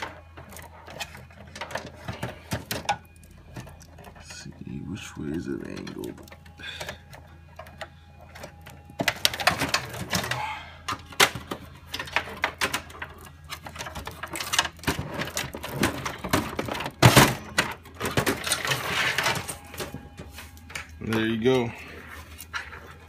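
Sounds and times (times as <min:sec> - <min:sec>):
power supply rattling in metal case: 0:00.0 - 0:20.2.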